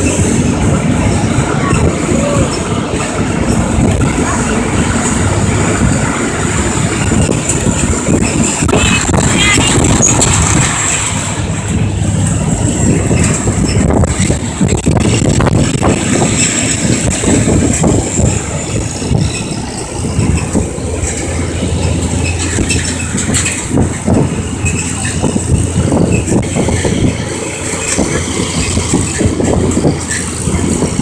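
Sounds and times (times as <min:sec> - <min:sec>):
tractor engine droning: 0:00.0 - 0:31.0.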